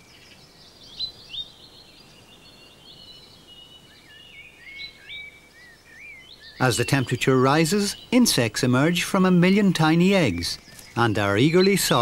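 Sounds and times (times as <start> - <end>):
songbirds singing and calling: 0.0 - 12.0.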